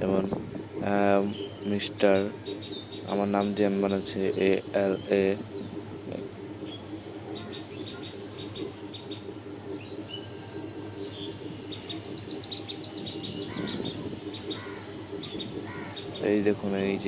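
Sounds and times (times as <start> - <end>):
birds chirping: 0.0 - 17.0
steady low drone: 0.0 - 17.0.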